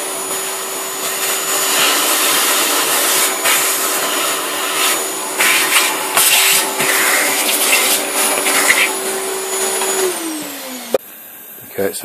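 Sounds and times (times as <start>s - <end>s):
vacuum cleaner sucking up chips: 0.0s - 11.0s.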